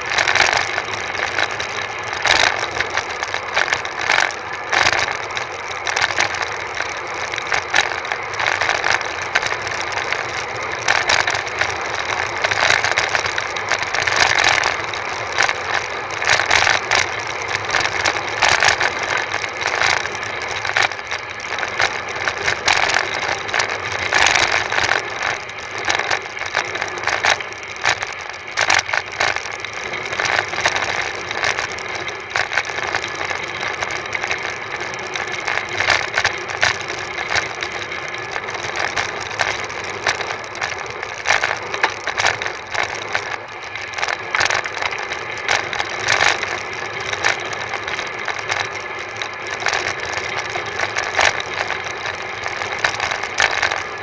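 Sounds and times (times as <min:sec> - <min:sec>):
bicycle rattling and clicking: 0:00.0 - 0:54.0.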